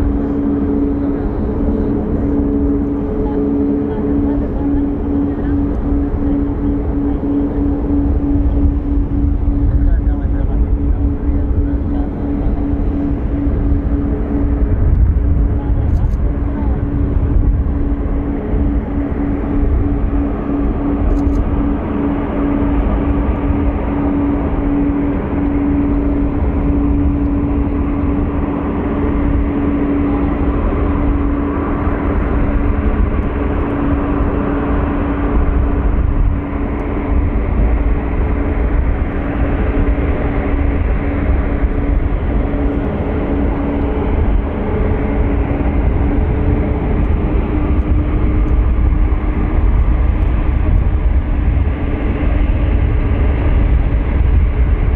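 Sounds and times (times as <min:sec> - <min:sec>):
jet aircraft drone: 0:00.0 - 0:54.9.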